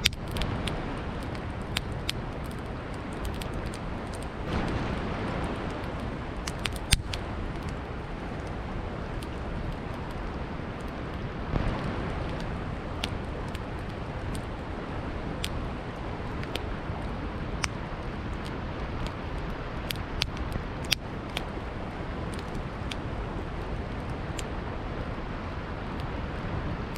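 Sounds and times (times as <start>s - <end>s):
campfire crackling and popping: 0.0s - 26.9s
river water flowing: 0.0s - 26.9s.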